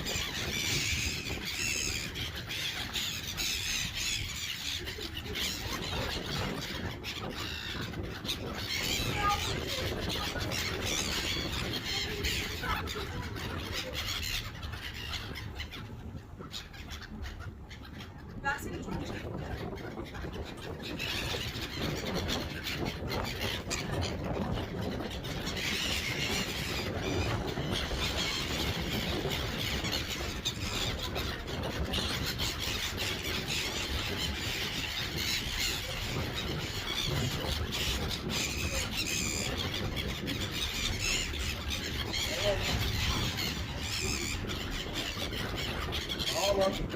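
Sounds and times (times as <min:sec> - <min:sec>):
gulls calling: 0:00.0 - 0:46.9
seagulls squawking: 0:00.0 - 0:46.9.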